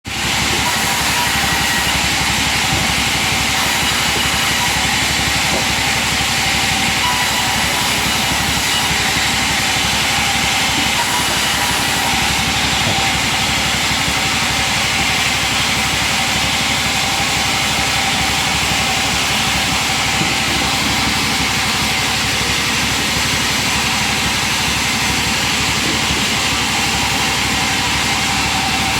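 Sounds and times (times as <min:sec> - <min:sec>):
machine running with loud hiss: 0:00.1 - 0:28.9
steady machine hum: 0:00.1 - 0:28.9.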